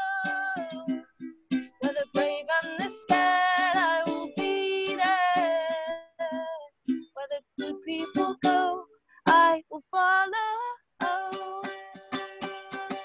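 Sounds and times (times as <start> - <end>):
woman singing: 0.0 - 1.1, 1.8 - 13.0
plucked string accompaniment: 0.0 - 9.7, 11.0 - 13.0.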